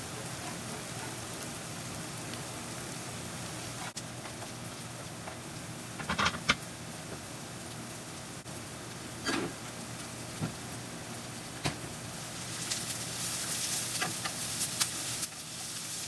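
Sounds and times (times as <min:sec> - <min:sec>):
vegetables sizzling in frying pan: 0:00.0 - 0:16.0.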